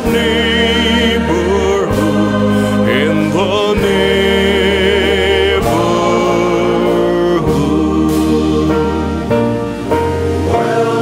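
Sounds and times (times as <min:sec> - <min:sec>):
slow song with sustained chords: 0:00.0 - 0:11.0.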